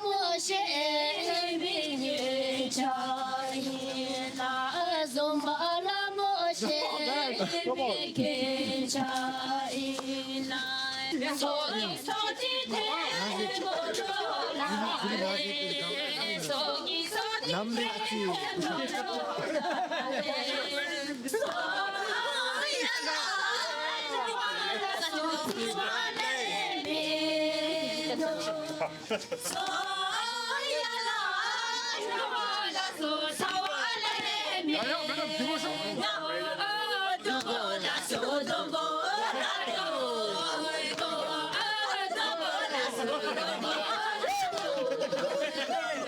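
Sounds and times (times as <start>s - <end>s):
voices singing with music: 0.0s - 46.0s.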